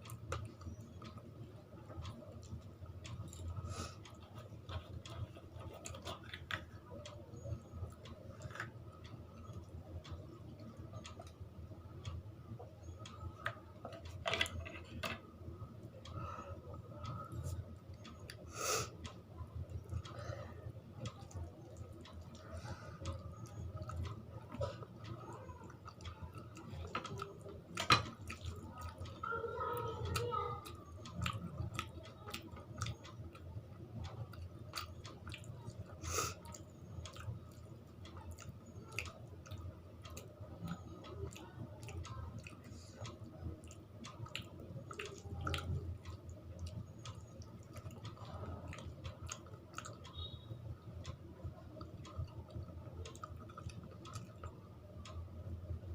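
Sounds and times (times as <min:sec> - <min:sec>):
person chewing food: 0:00.0 - 0:11.4, 0:15.8 - 0:29.3, 0:30.0 - 0:51.2, 0:51.8 - 0:55.2.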